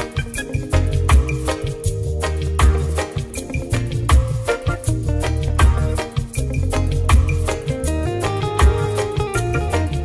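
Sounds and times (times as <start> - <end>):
afro-jazz song with bass and beat: 0.0 - 10.0.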